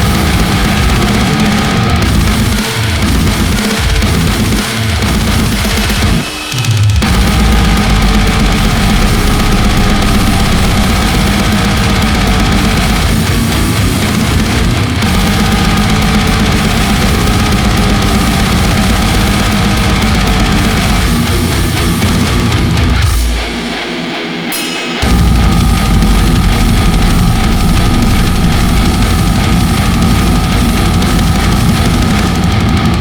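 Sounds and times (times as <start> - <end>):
deathgrind metal music: 0.0 - 33.0.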